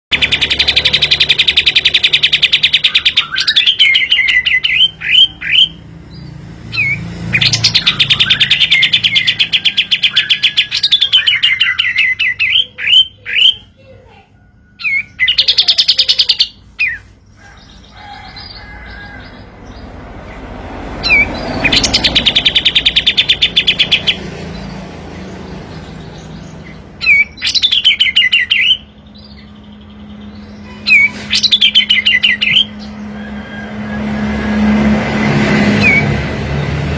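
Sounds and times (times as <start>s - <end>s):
songbird trilling and whistling: 0.1s - 13.8s, 14.8s - 19.9s, 21.0s - 24.8s, 25.7s - 33.6s.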